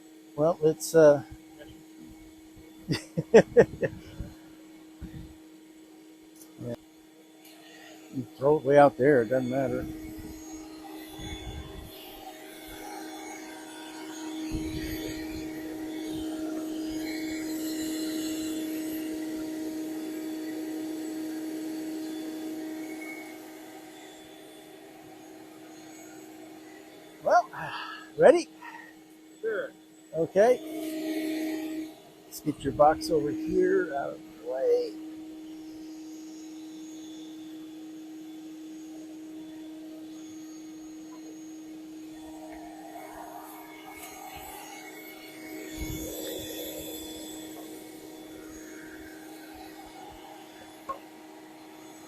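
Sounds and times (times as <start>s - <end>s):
vacuum motor humming: 0.0s - 52.0s.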